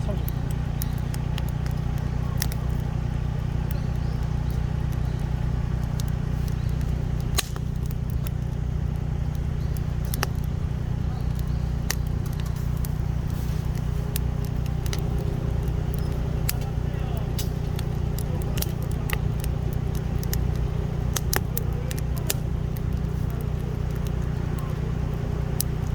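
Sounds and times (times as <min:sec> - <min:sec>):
campfire crackling and popping: 0:00.0 - 0:25.9
low hum: 0:00.0 - 0:25.9.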